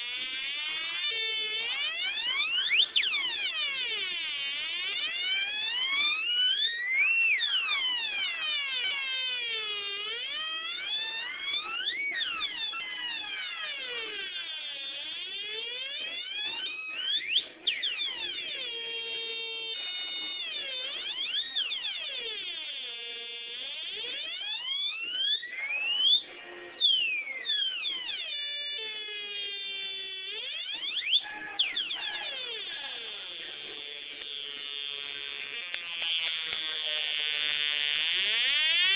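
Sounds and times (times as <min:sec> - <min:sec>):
electronic siren sweeping up and down: 0:00.0 - 0:38.9.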